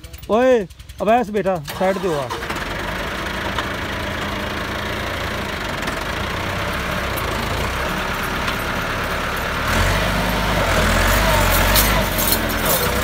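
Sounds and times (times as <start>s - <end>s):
tractor diesel engine straining: 0.0s - 13.0s.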